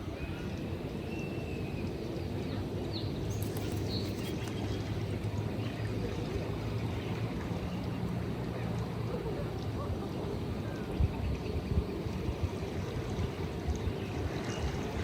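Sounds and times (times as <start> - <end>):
small waves lapping on shore: 0.0 - 15.0.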